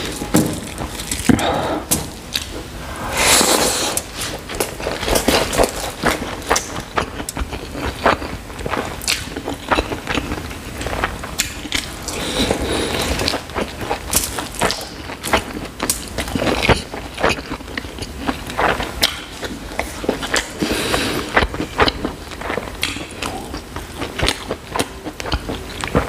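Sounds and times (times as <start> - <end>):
chewing: 3.4 - 26.0.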